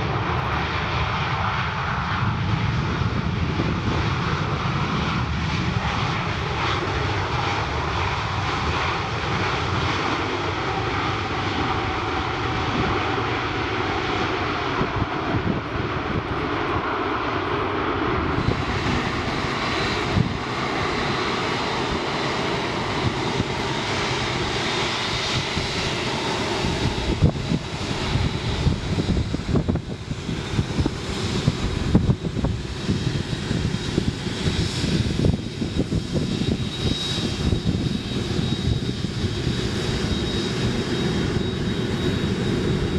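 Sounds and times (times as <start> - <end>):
airliner engines running: 0.0 - 42.9.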